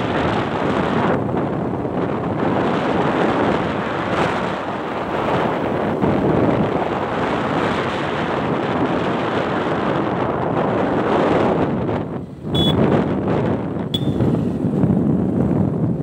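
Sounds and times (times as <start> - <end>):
wind buffeting a microphone: 0.0 - 16.0.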